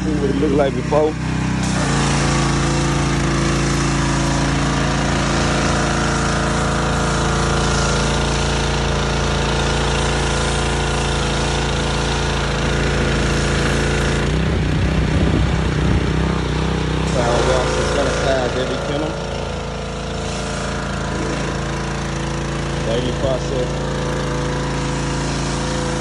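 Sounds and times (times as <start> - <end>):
pressure washer engine running: 0.0 - 26.0
water jet hissing: 0.0 - 26.0.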